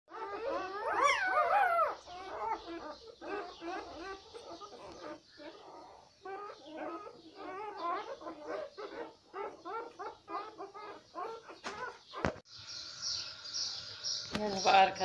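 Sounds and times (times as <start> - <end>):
puppies crying and whimpering: 0.1 - 12.4.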